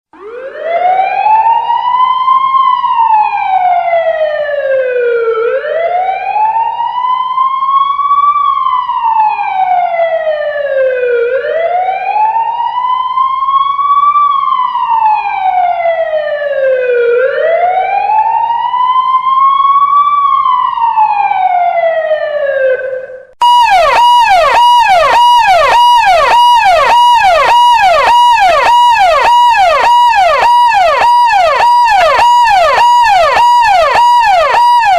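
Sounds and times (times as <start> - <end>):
siren rapid yelp: 0.2 - 34.9
siren slow wail: 0.2 - 34.9.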